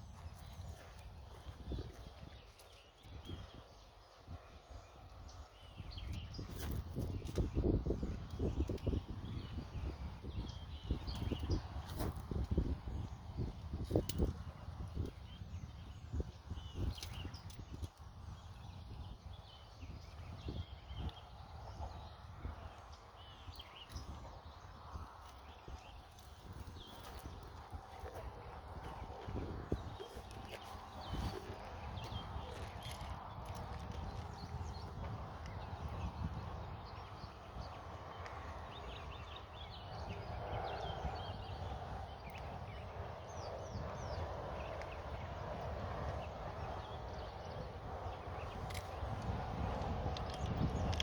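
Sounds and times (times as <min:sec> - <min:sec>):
birds chirping: 0:00.0 - 0:51.0
wind buffeting on microphone: 0:00.0 - 0:51.0.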